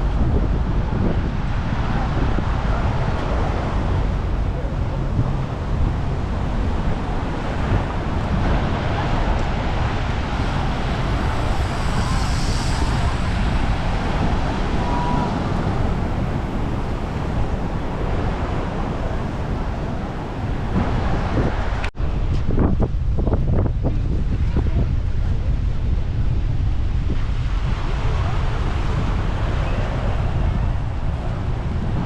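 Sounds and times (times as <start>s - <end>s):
rush of background noise: 0.0s - 32.0s
wind buffeting microphone: 0.0s - 32.0s.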